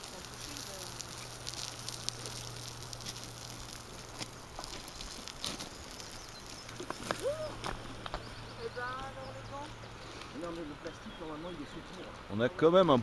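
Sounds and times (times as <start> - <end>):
low steady hum: 0.0 - 13.0
steady soft hiss: 0.0 - 13.0.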